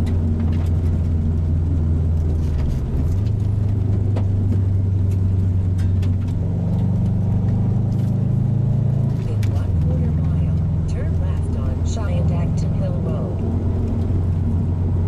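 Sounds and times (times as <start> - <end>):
car engine drone inside cabin: 0.0 - 15.0.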